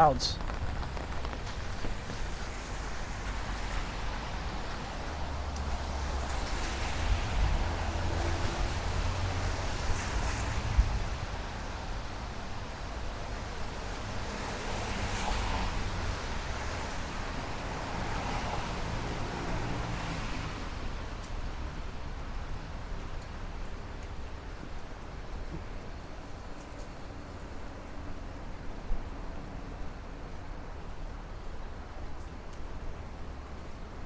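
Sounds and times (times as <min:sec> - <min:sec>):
vehicles passing with tyre noise: 0:00.0 - 0:34.0.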